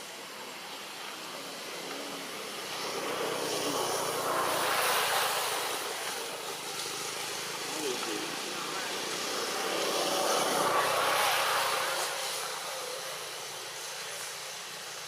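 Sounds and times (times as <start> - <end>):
passing motor engine rushing: 1.8 - 14.6.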